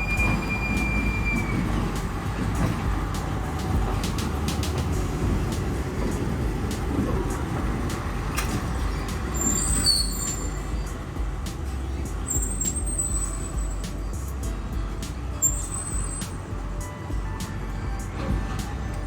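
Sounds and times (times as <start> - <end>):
train wheels squealing: 0.0 - 11.1, 11.7 - 14.4, 15.4 - 19.0
train rumbling: 0.0 - 19.0.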